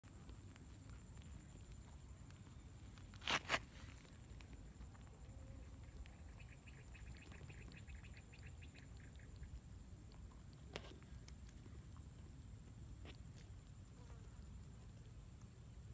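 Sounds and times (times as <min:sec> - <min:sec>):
faint ticks: 0:00.1 - 0:03.2, 0:03.9 - 0:15.9.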